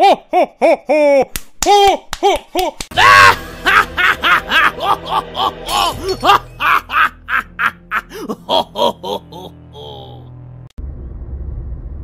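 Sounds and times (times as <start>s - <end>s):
cartoon clown laughing: 0.0s - 10.3s.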